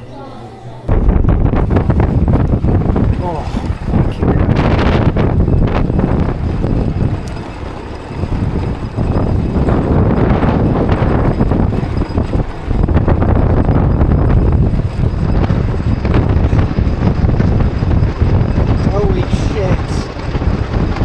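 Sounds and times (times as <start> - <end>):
wind buffeting microphone: 0.9 - 21.0.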